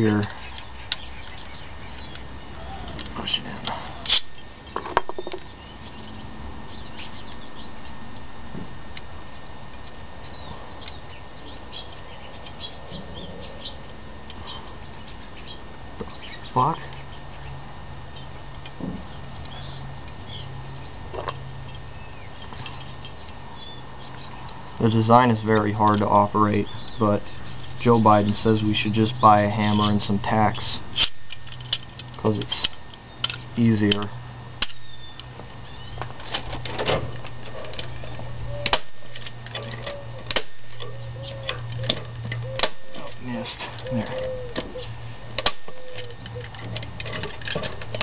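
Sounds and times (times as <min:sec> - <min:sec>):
small birds chirping: 0:00.0 - 0:08.3, 0:09.2 - 0:36.2, 0:37.0 - 0:48.0
steady low hum: 0:00.0 - 0:48.0.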